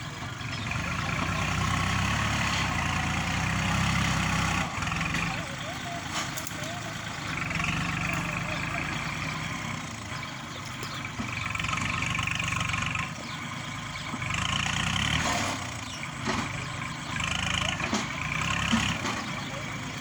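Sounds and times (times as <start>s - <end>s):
tractor diesel engine working: 0.0s - 20.0s.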